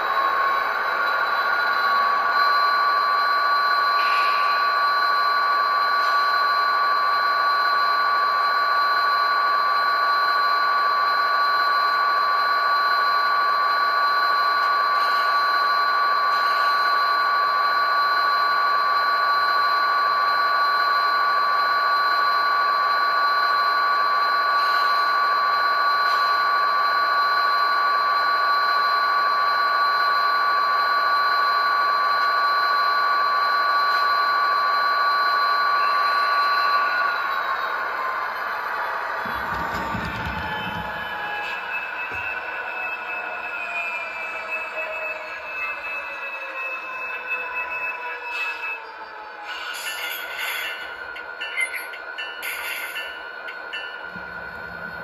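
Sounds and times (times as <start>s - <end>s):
electronic whine of held tones: 0.0s - 55.0s.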